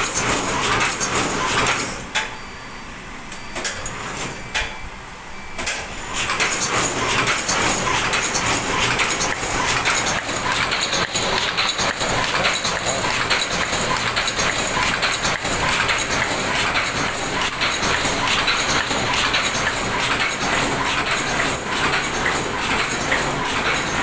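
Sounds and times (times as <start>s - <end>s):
machine clattering: 0.0s - 2.3s, 5.6s - 24.0s.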